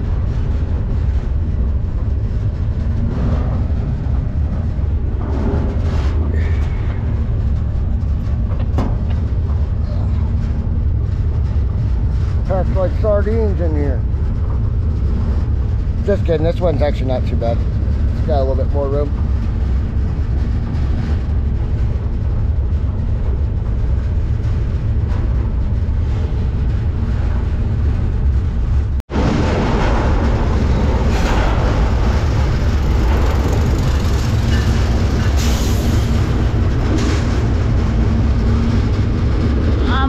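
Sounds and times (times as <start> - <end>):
freight train rumbling: 0.0 - 40.0.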